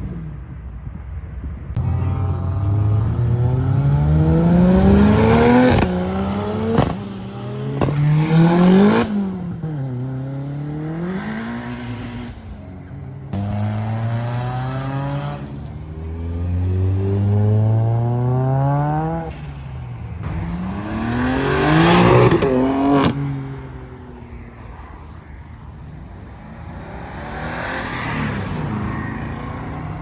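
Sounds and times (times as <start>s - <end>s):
car engines revving: 1.7s - 30.0s.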